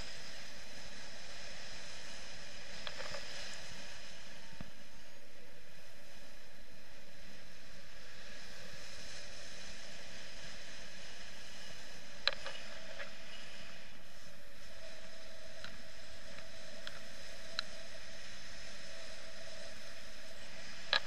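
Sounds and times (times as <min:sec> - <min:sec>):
faint ticks: 0:00.0 - 0:04.9, 0:08.0 - 0:21.0
wind rushing over microphone: 0:00.0 - 0:21.0.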